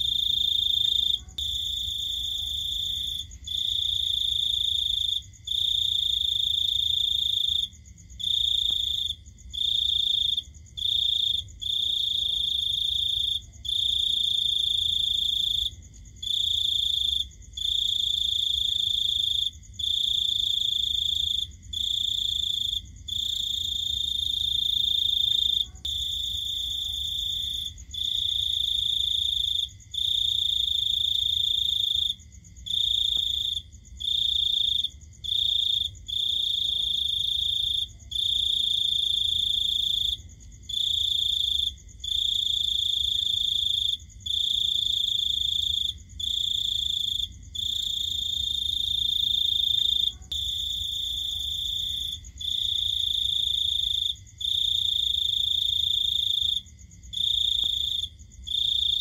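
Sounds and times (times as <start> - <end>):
cricket trilling: 0.0 - 59.0.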